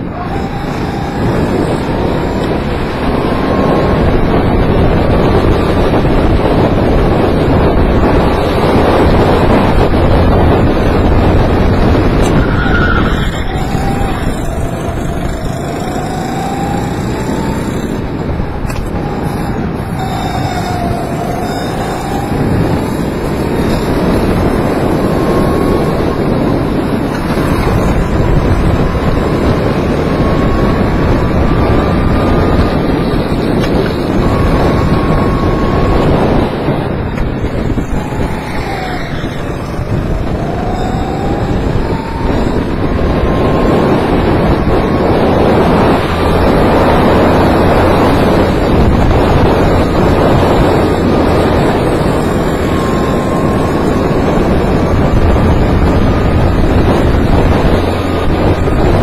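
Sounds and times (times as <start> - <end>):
go-kart engine whining: 0.0 - 59.0
wind rushing over microphone: 0.0 - 59.0.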